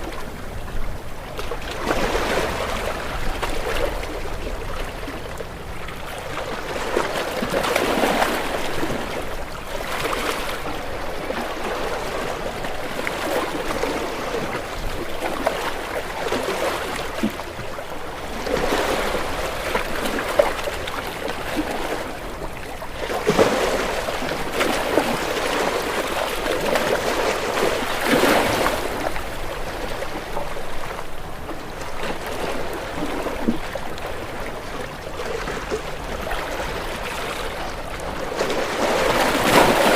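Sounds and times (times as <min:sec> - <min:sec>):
ocean waves breaking on rocks: 0:00.0 - 0:39.9.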